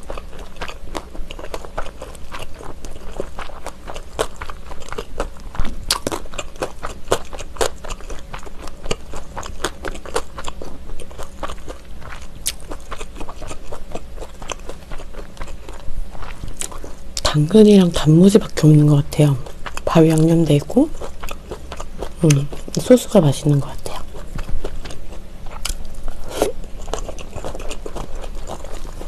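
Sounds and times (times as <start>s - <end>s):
mouth clicks and crunches: 0.0s - 17.4s, 19.3s - 29.0s
wet chewing: 0.0s - 29.0s.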